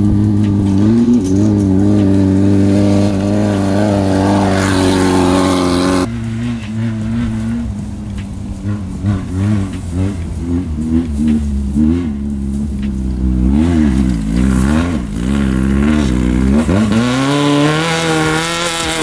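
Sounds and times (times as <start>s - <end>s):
engine revving up and down: 0.0s - 19.0s
race vehicle engine running hard: 0.0s - 19.0s.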